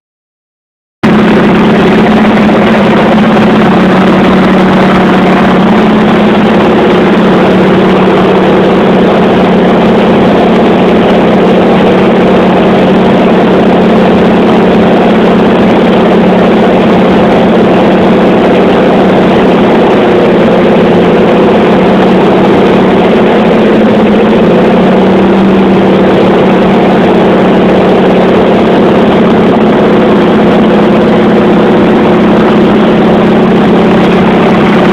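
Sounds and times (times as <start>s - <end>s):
piston aircraft engine droning: 1.0s - 34.9s.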